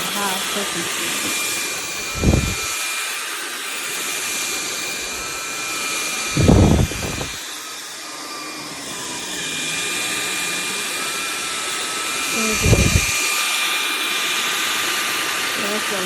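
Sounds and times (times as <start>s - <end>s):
stick vacuum whining: 0.0s - 16.0s.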